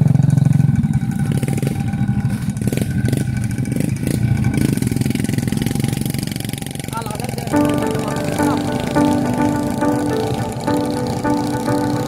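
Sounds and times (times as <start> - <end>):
scooter engines running: 0.0 - 12.0.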